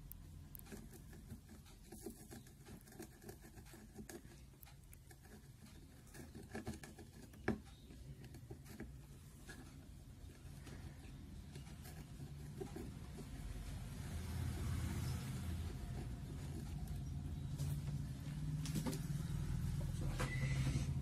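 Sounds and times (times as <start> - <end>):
desoldering braid scratching: 0.0 - 17.5.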